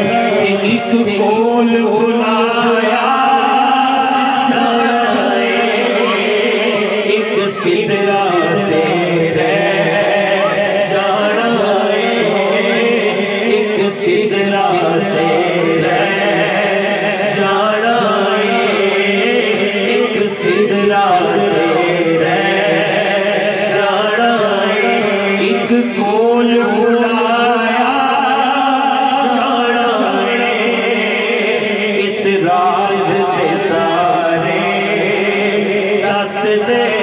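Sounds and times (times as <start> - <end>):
man chanting through a microphone: 0.0 - 37.0.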